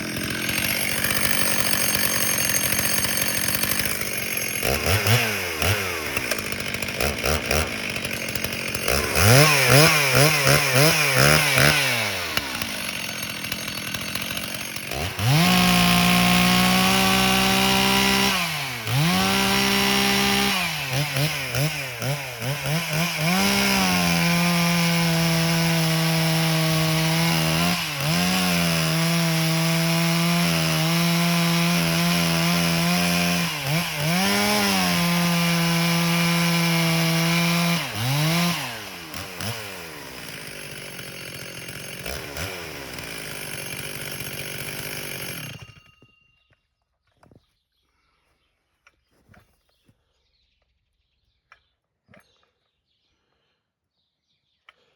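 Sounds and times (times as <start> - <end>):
chainsaw revving: 0.0 - 45.8.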